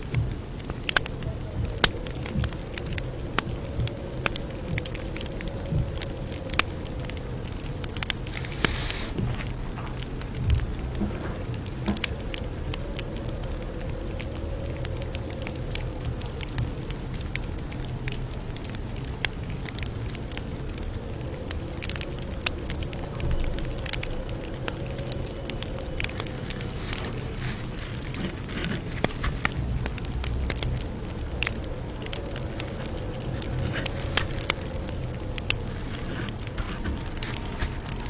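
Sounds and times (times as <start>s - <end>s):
campfire crackling and popping: 0.0s - 38.0s
low rumble of flames: 0.0s - 38.0s.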